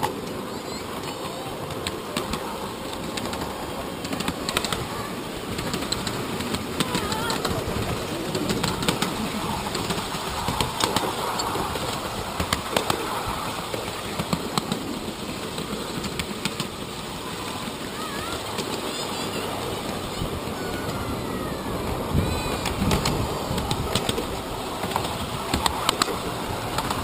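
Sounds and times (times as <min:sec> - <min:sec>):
sharp clicks of wheels on track: 0:00.0 - 0:27.0
train wheels rumbling on rails: 0:00.0 - 0:27.0.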